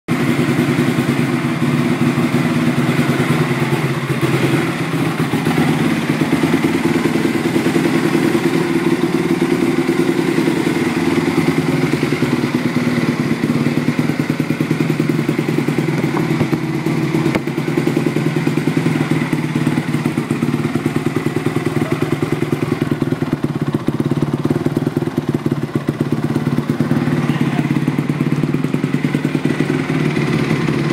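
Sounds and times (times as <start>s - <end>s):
motorcycle engine idling: 0.1s - 30.9s.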